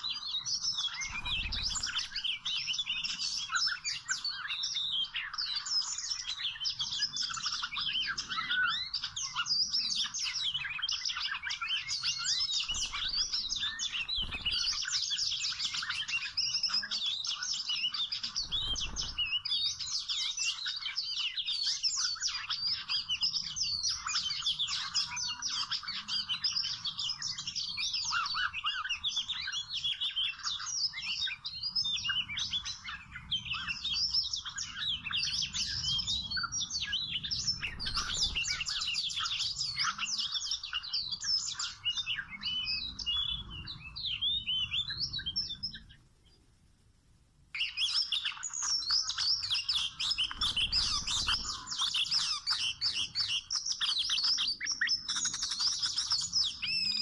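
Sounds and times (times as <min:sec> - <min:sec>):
bird whistles and chirps: 0:00.0 - 0:46.4, 0:47.6 - 0:57.0.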